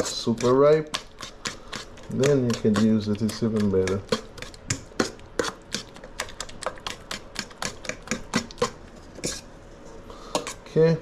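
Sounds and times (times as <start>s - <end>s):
fork clicking against bowl: 0.0s - 9.4s
fork mashing bananas: 0.0s - 9.5s, 10.2s - 10.8s.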